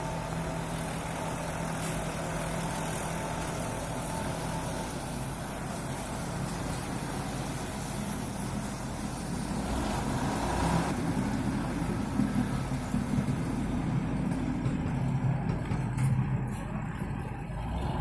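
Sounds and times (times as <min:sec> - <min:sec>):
vehicle engines humming: 0:00.0 - 0:18.0.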